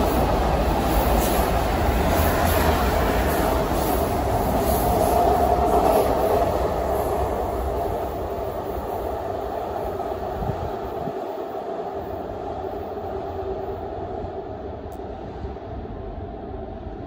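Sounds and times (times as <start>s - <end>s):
high-speed train passing: 0.0s - 17.0s.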